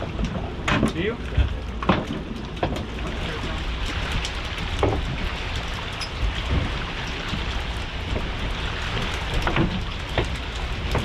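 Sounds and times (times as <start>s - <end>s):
wind and water rushing hiss: 0.0s - 11.0s.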